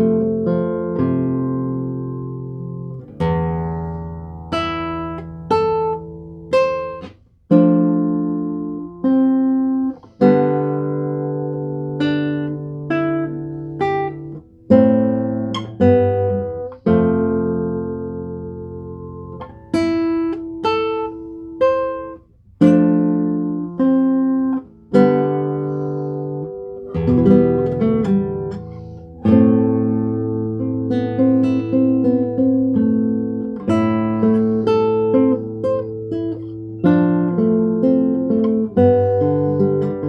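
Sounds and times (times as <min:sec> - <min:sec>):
guitar playing slow chords: 0:00.0 - 0:40.0.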